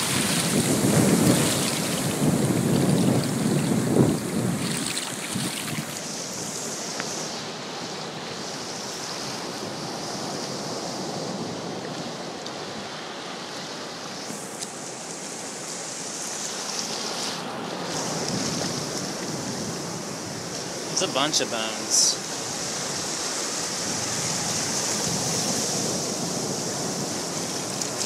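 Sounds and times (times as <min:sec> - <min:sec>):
surf washing at water's edge: 0:00.0 - 0:28.0.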